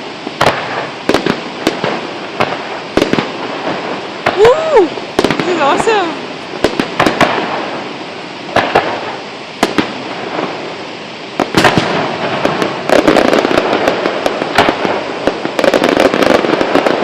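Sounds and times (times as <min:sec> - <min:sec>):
fireworks bangs and crackles: 0:00.0 - 0:17.0
fireworks booming: 0:00.0 - 0:17.0.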